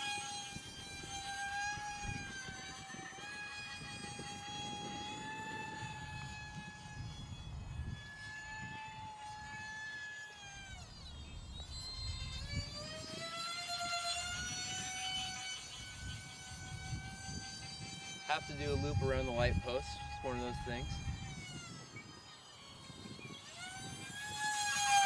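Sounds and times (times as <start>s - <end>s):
electric ducted fans whining: 0.0s - 25.0s
wind rumble on microphone: 0.0s - 25.0s.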